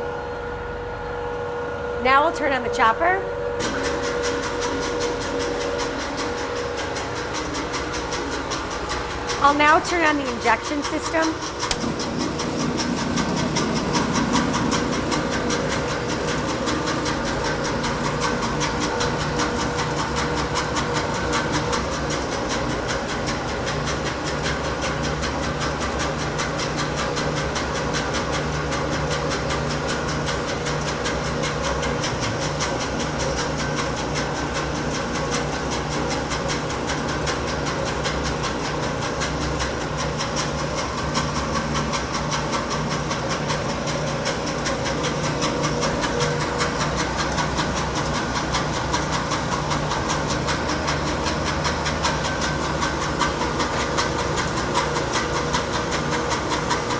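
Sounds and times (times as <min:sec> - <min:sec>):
industrial mixer running: 0:00.0 - 0:56.9.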